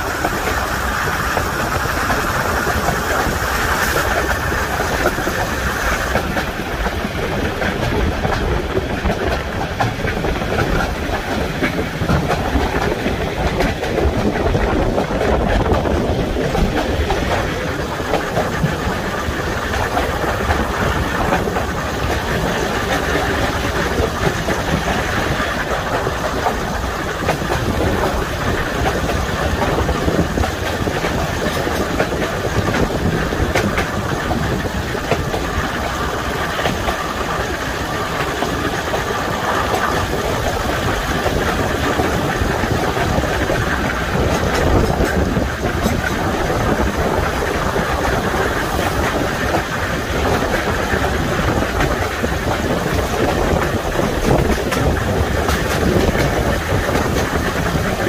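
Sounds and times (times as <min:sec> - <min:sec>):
train diesel engine running: 0:00.0 - 0:58.0.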